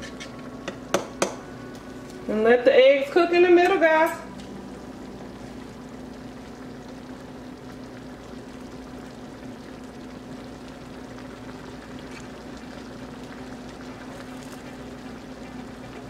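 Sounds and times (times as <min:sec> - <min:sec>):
food simmering in a skillet: 0:00.0 - 0:16.0
steady low hum: 0:00.0 - 0:16.0.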